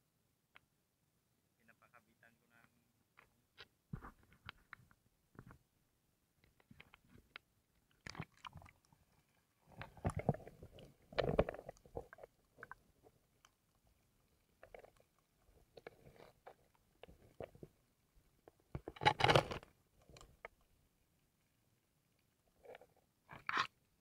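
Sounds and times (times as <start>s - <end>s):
faint underwater clicks and crackles: 2.2s - 5.7s, 6.4s - 24.0s.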